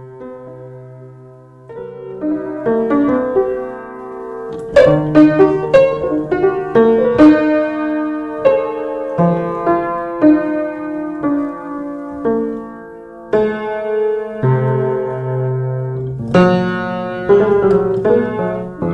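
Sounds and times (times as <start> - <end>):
piano melody with chords: 0.0 - 18.9.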